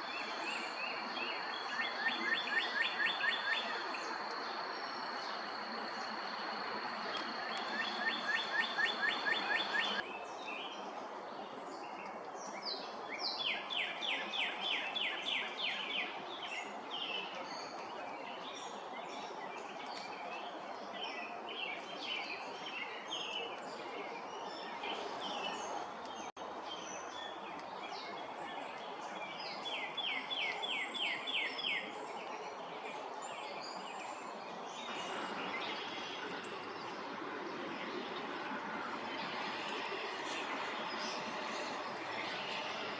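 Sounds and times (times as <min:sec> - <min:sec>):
outdoor background noise: 0:00.0 - 0:42.9
songbirds singing: 0:00.0 - 0:42.9.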